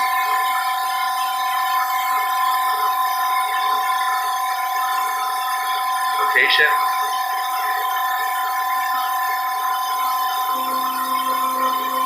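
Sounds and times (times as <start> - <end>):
concrete mixer truck machinery drone: 0.0 - 12.0.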